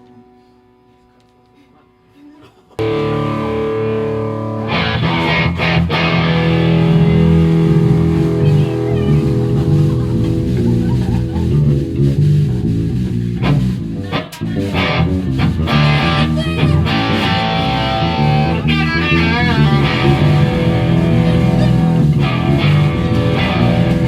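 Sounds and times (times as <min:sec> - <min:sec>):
bass guitar: 0:02.8 - 0:24.0
electric guitar lead notes: 0:02.8 - 0:24.0.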